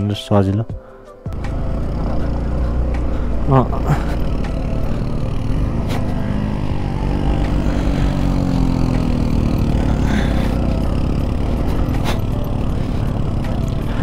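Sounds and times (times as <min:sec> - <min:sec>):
motorcycle engine running: 0:01.3 - 0:14.0.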